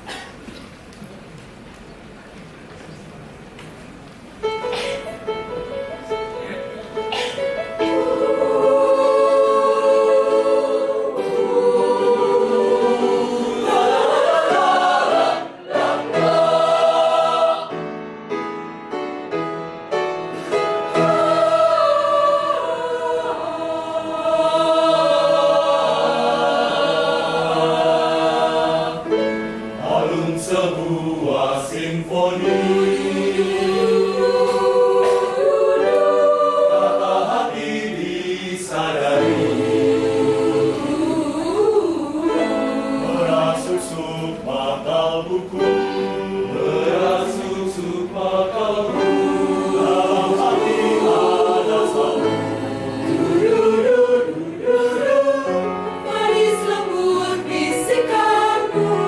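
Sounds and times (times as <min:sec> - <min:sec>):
choir singing in harmony: 0:07.0 - 0:19.3, 0:20.1 - 0:59.0.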